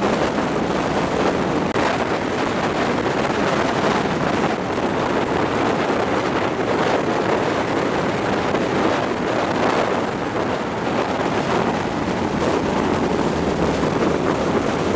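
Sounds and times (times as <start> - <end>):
train running on rails: 0.0 - 14.9
wind buffeting microphone: 0.0 - 14.9.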